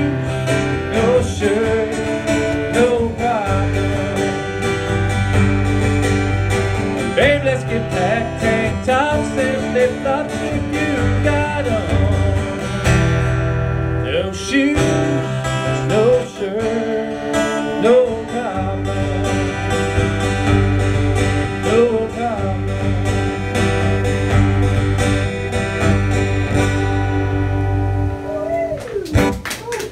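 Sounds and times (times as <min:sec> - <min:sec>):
strummed acoustic guitar: 0:00.0 - 0:28.3
country song by live band: 0:00.0 - 0:28.4
steady bass: 0:00.0 - 0:28.4.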